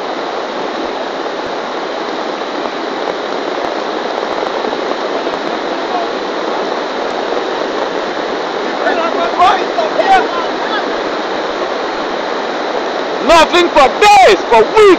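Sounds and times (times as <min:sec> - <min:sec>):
floodwater rushing down river: 0:00.0 - 0:14.9.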